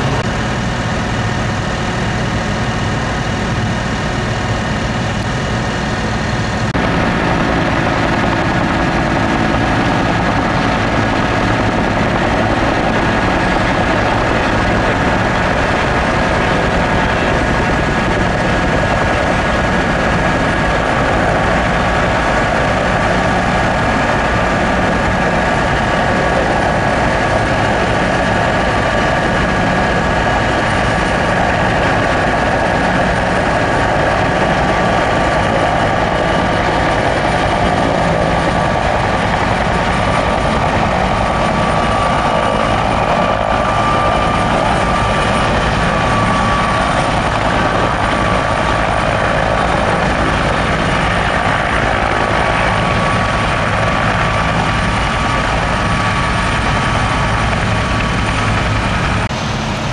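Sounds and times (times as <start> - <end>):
helicopter flying past: 0.0 - 59.9
high turbine whine: 0.0 - 59.9.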